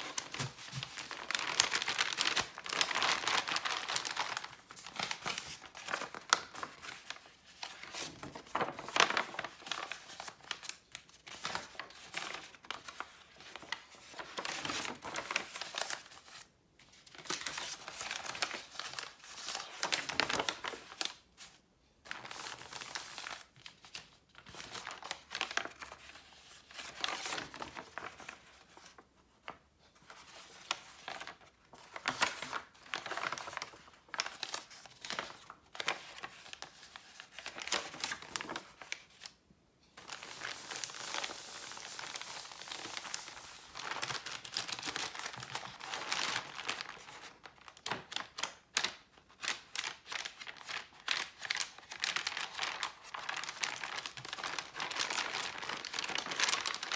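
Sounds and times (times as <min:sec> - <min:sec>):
paper crinkling and rustling: 0:00.0 - 0:56.9.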